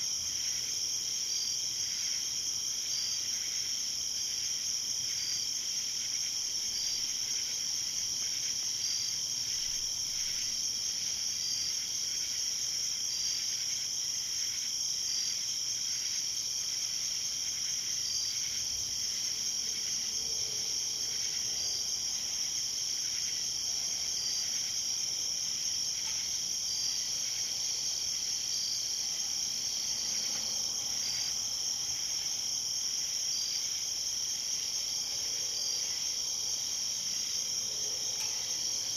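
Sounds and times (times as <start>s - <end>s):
high insect trill: 0.0s - 38.9s
lower insect trill: 0.0s - 38.9s.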